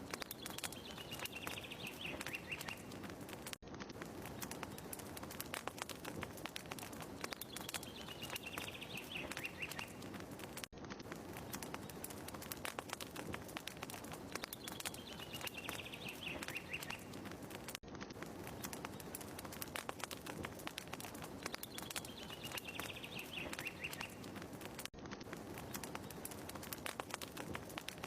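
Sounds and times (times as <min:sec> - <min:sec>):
fireplace crackling: 0:00.0 - 0:28.0.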